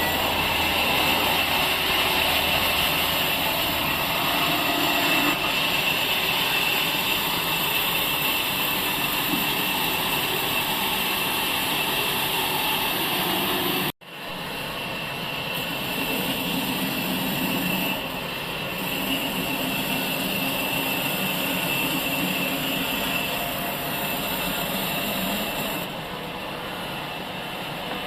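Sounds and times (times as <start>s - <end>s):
sawmill saw whining: 0.0s - 26.0s.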